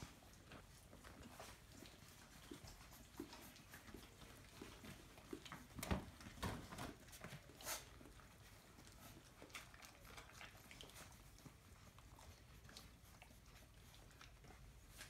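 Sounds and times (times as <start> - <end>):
dogs shuffling on bedding: 0.0 - 15.0.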